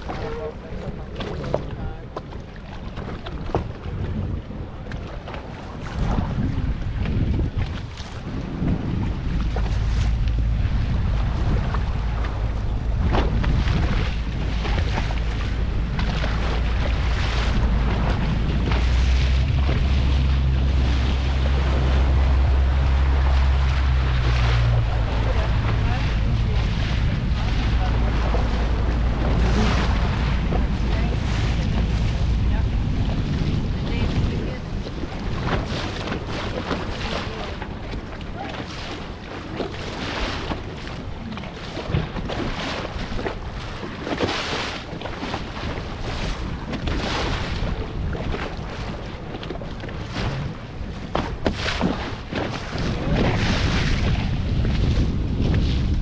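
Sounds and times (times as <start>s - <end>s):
powerboat engine droning: 0.0s - 56.0s
water rushing against hull: 0.0s - 56.0s
wind buffeting microphone: 0.0s - 56.0s.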